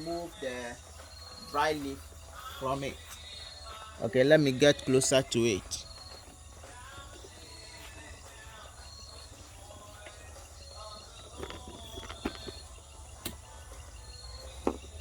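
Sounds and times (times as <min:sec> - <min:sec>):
insect chirping high-pitched: 0:00.0 - 0:15.0.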